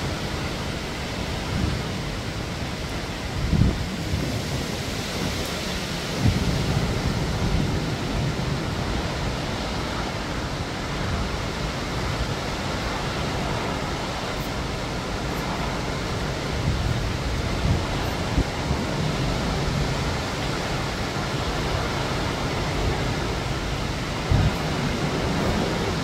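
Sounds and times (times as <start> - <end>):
low rumbling wind gusts: 0.0 - 26.0
wind rushing through trees: 0.0 - 26.0.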